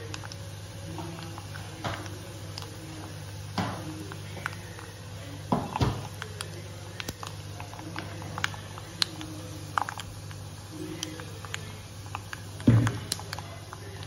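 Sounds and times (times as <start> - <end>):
spices popping in hot oil: 0.0 - 14.0.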